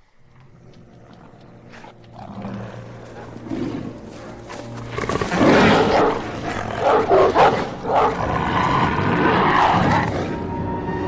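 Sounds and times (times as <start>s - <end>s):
monstrous dogs snarling and growling: 0.5s - 10.6s.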